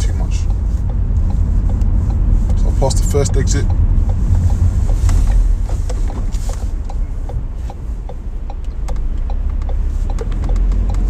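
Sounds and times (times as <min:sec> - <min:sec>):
car turn indicator ticking: 0:00.0 - 0:11.0
road and engine rumble: 0:00.0 - 0:11.0.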